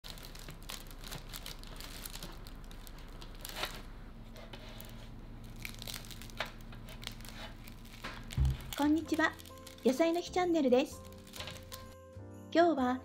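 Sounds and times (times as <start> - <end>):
bread crust and parchment crackling: 0.0 - 12.0.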